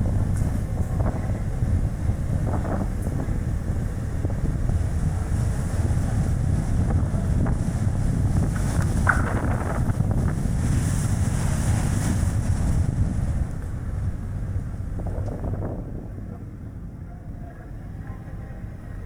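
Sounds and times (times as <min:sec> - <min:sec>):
tyre and road noise: 0:00.0 - 0:17.0
strong wind buffeting microphone: 0:00.0 - 0:19.0.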